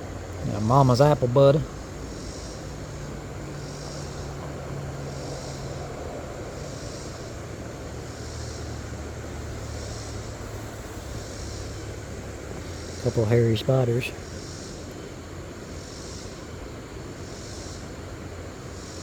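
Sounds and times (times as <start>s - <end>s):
low engine drone: 0.0s - 17.2s.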